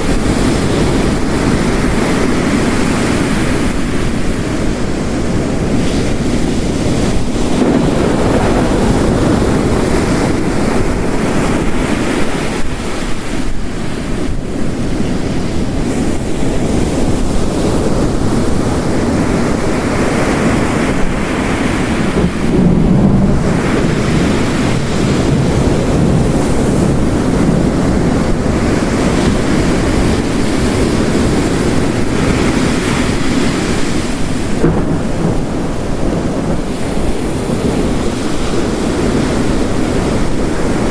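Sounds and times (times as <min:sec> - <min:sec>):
heavy rain: 0:00.0 - 0:40.9
ocean surf crashing: 0:00.0 - 0:40.9.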